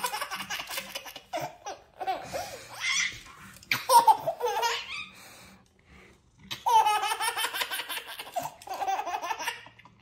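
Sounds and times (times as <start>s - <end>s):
baby laughing: 0.0s - 5.1s, 6.5s - 9.9s.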